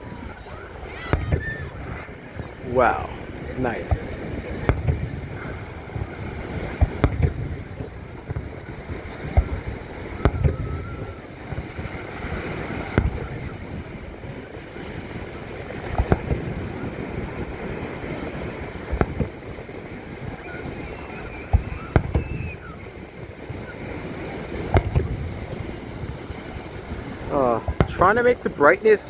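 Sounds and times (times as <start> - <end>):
fireworks booming: 0.0 - 28.6
wind on microphone: 0.0 - 28.9.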